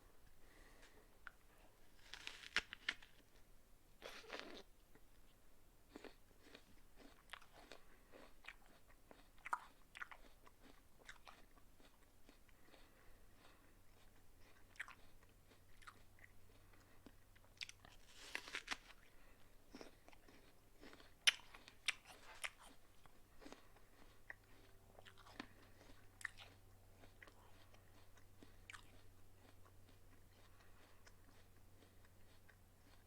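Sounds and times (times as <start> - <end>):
person crunching an apple: 0.6 - 3.4, 4.0 - 5.0, 5.9 - 33.0.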